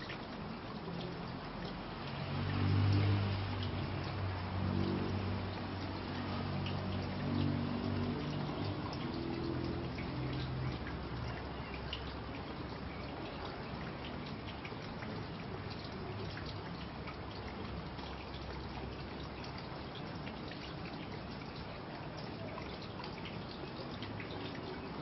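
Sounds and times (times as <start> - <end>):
water dripping: 0.0 - 25.0
water trickling: 0.0 - 25.0.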